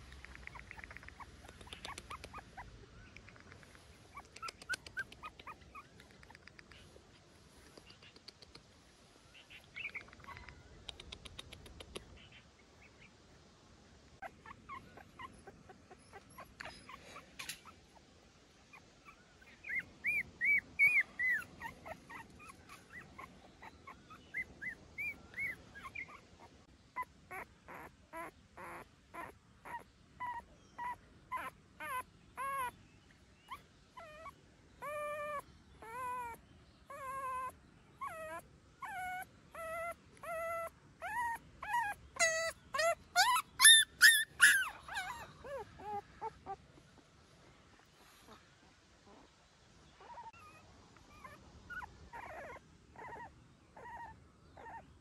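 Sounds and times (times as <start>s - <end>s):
puppy whimpering: 0.2s - 3.4s, 4.1s - 6.6s, 9.8s - 12.1s, 14.2s - 18.0s, 18.7s - 32.8s, 33.4s - 46.8s, 50.0s - 54.9s.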